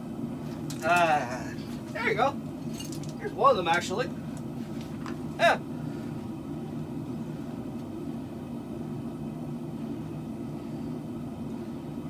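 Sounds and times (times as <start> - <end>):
gas forge burners rumbling: 0.0 - 12.0.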